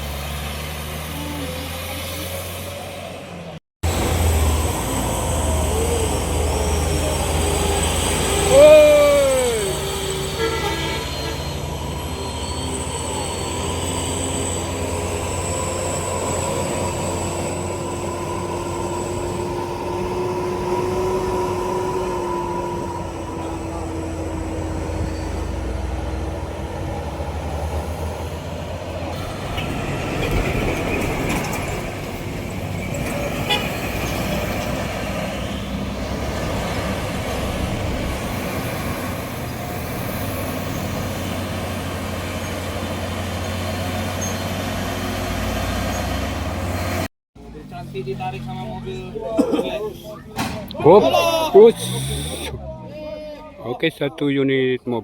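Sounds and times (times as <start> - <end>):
engine whine: 0.0 - 49.2
truck passing: 0.0 - 54.9
truck engines rumbling: 0.0 - 55.0.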